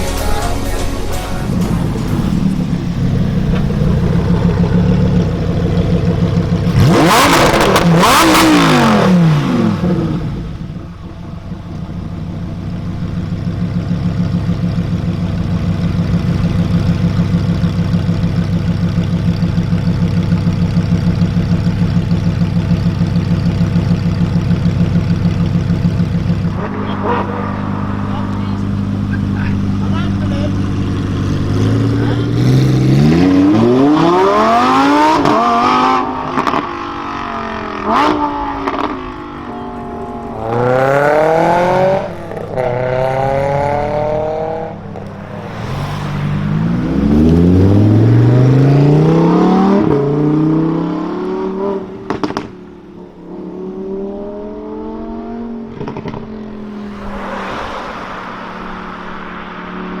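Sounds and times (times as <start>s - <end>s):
exhaust cracks: 1.0s - 50.4s, 51.2s - 53.8s, 55.7s - 60.0s
car engine revving and accelerating: 1.3s - 60.0s.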